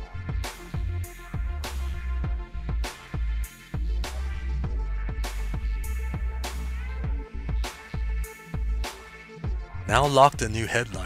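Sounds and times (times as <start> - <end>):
electronic music with drum beat: 0.0 - 11.0.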